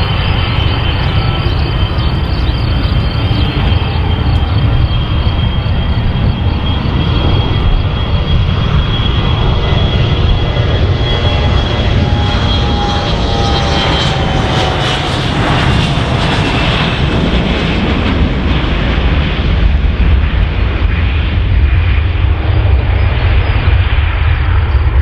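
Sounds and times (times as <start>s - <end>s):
airplane engines passing: 0.0s - 25.0s.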